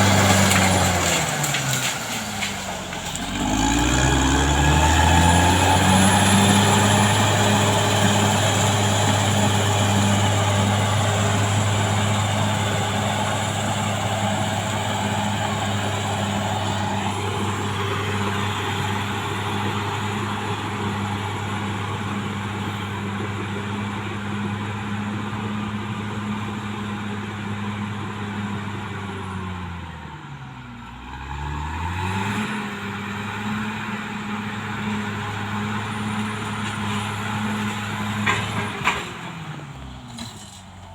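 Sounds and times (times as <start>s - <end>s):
bulldozer diesel engine revving: 0.0s - 40.9s.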